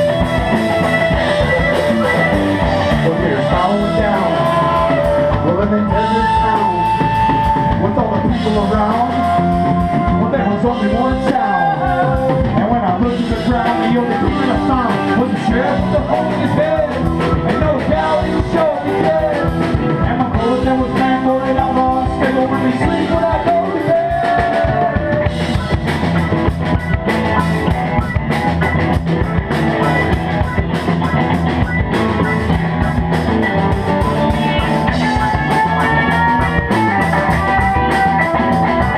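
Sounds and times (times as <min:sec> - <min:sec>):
lead guitar bending notes: 0:00.0 - 0:38.9
rock band playing: 0:00.0 - 0:38.9.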